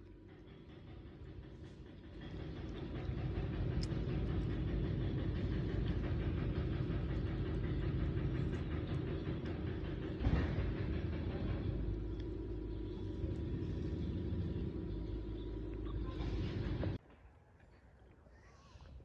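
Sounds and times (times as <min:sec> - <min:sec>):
low rumbling noise: 0:00.0 - 0:18.1.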